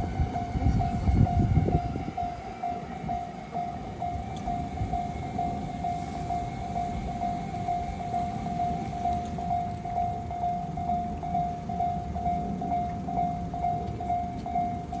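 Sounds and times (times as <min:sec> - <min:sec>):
level crossing warning alarm: 0:00.0 - 0:15.0
train rumbling past: 0:00.0 - 0:15.0.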